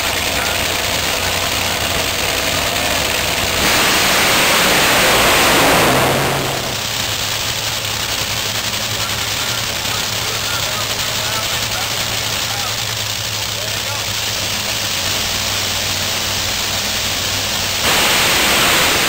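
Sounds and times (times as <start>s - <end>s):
drag race car engines: 0.0s - 19.0s.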